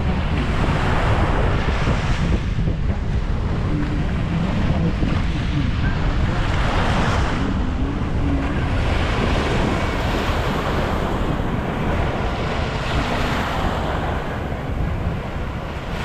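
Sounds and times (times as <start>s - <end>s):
sea waves breaking on beach: 0.0s - 16.0s
wind rumble on microphone: 0.0s - 16.0s.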